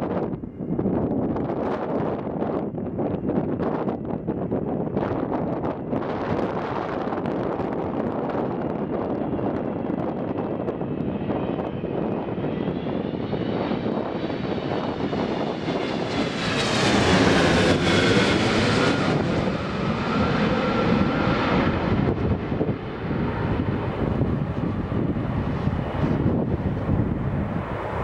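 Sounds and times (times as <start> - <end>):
jet engine whine: 0.0 - 28.0
jet engines roaring overhead: 0.0 - 28.0.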